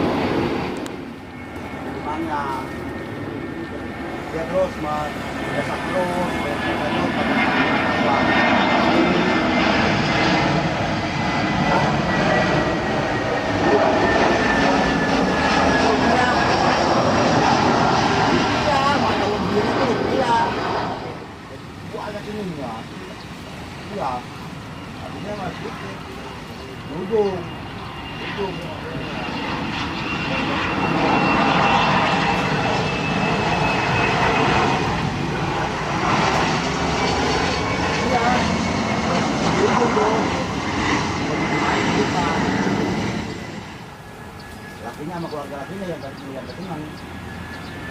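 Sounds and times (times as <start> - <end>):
high engine whine: 0.0 - 47.9
jet engines rushing: 0.0 - 47.9.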